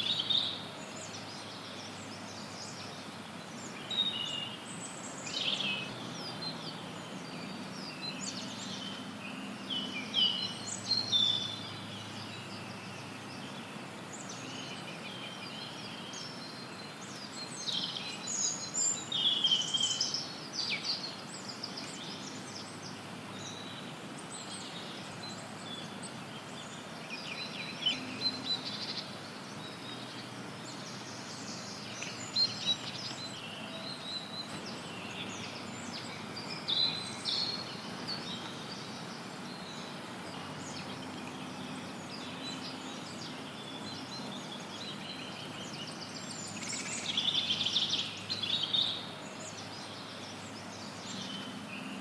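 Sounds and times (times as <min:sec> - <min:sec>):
songbirds chirping: 0:00.0 - 0:52.0
white noise hiss: 0:00.0 - 0:52.0.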